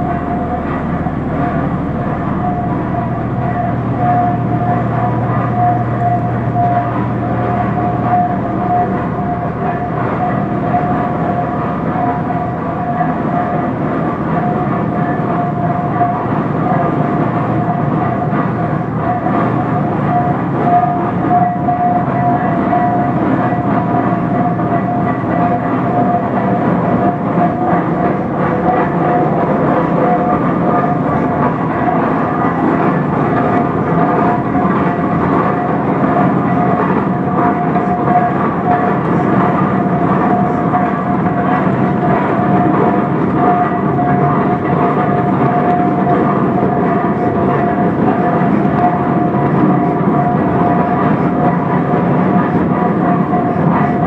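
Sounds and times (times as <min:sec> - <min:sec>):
engine running with high whine: 0:00.0 - 0:54.0.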